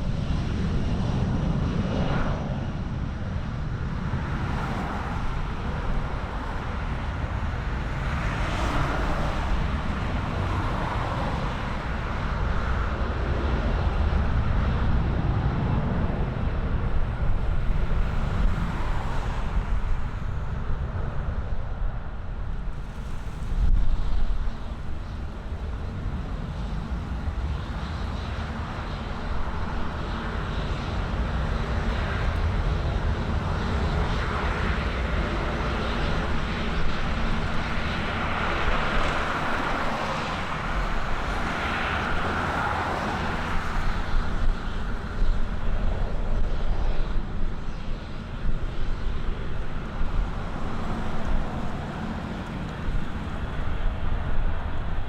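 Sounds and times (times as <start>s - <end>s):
airplane engine noise: 0.0s - 55.0s
wind buffeting microphone: 0.0s - 55.0s.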